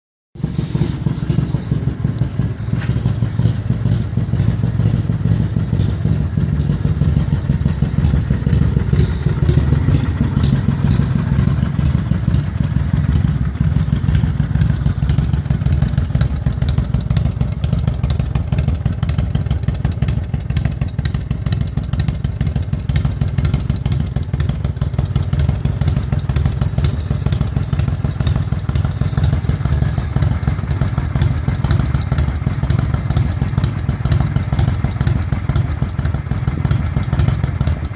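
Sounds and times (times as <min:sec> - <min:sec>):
motorcycle engine running: 0:00.4 - 0:37.9.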